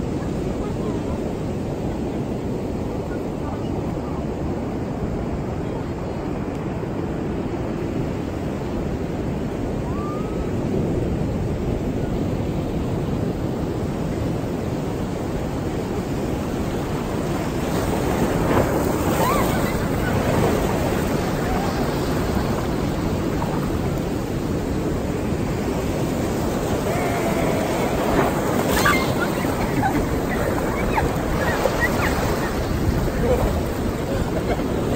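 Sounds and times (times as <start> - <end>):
ocean surf breaking on beach: 0.0 - 34.9.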